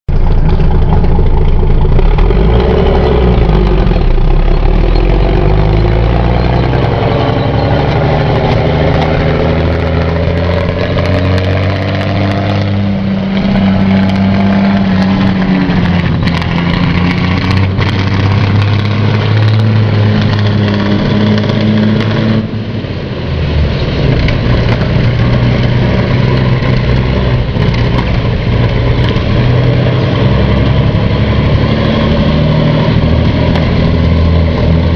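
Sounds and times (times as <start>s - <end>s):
tank engine running loud: 0.1s - 34.9s.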